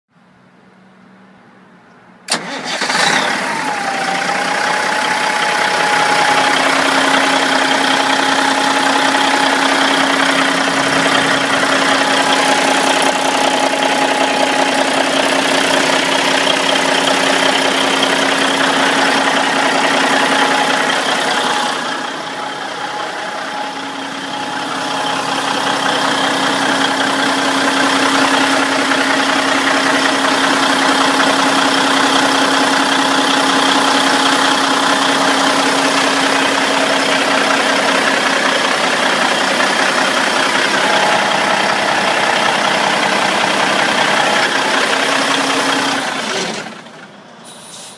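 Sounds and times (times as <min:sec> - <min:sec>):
diesel engine idling with whine: 0:02.3 - 0:47.9.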